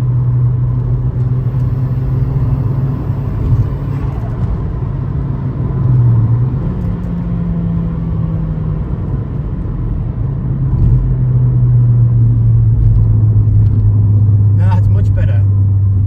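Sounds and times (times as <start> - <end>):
car engine droning: 0.0 - 16.0
tyre and road noise: 0.0 - 16.0.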